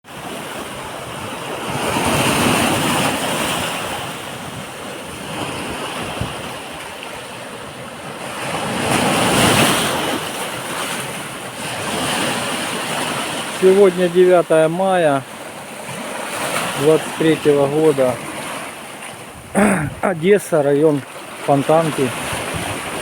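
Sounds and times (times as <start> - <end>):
waves breaking on beach: 0.1 - 23.0.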